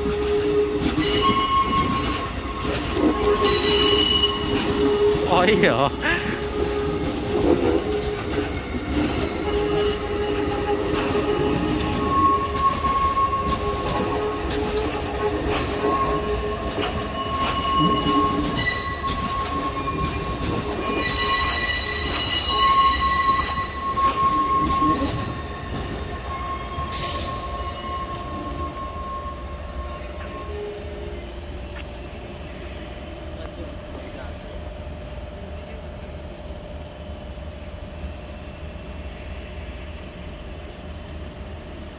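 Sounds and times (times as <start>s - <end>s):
train wheels squealing: 0.0s - 35.9s
train cars rumbling: 0.0s - 41.9s.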